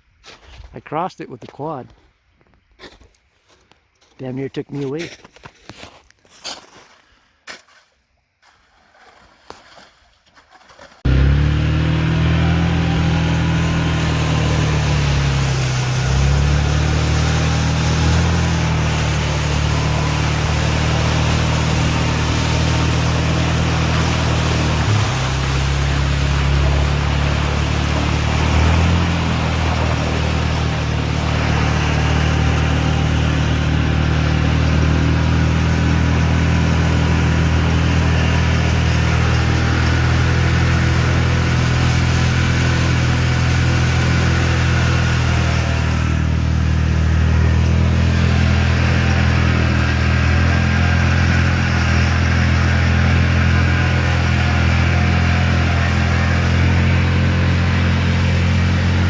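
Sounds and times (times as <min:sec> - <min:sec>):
quad engine revving: 0:11.0 - 0:59.0.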